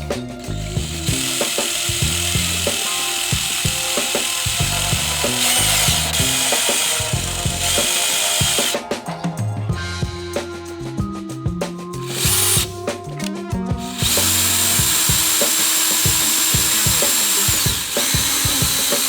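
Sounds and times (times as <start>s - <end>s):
power drill grinding plastic: 0.0s - 8.9s, 12.0s - 19.0s
background music with drum beat: 0.0s - 19.0s.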